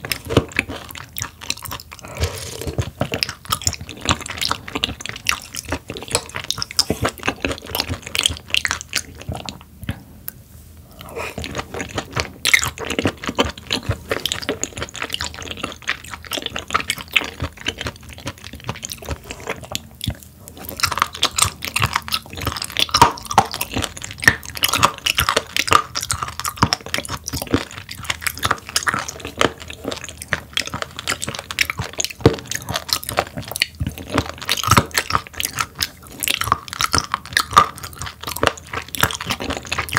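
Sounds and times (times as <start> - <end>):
mouth clicks and crackles: 0.0 - 39.9
wet chewing and crunching: 0.0 - 39.9.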